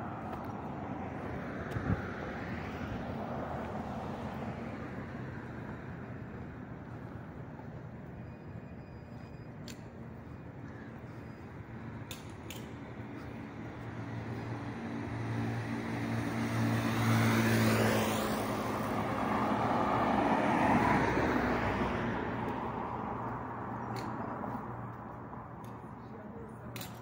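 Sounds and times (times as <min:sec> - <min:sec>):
vehicle engine hum: 0:00.0 - 0:27.0.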